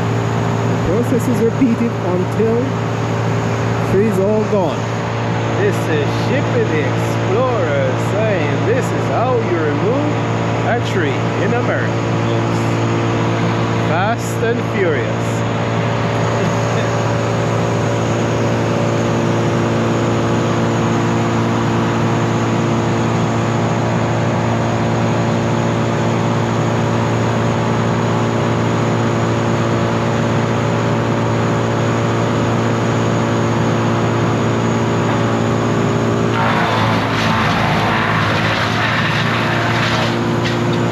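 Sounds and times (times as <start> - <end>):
machinery engine droning: 0.0 - 40.9.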